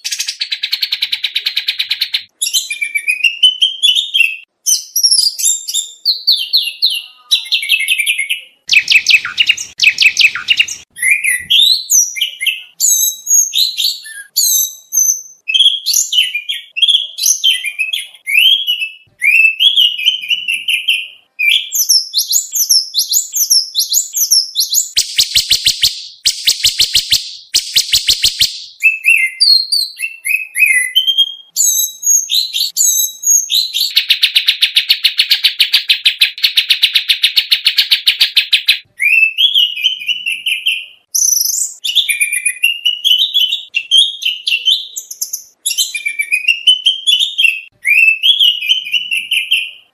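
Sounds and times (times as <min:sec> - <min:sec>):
bird singing whistled song: 0:00.0 - 0:49.9.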